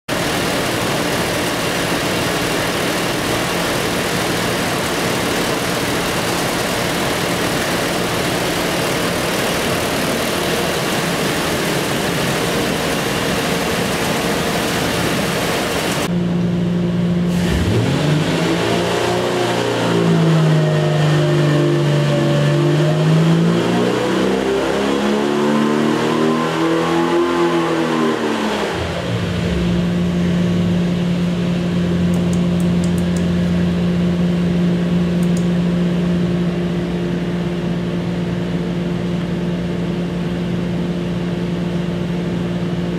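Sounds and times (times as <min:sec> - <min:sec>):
engine running: 0:00.1 - 0:42.9.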